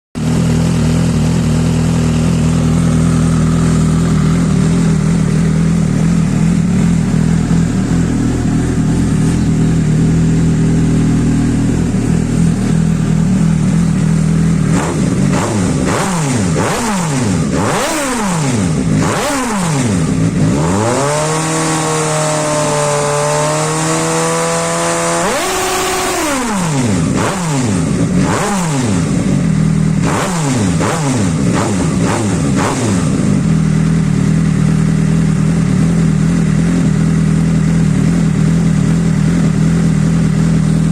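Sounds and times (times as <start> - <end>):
motorcycle engine idling and revving: 0.2 - 40.9.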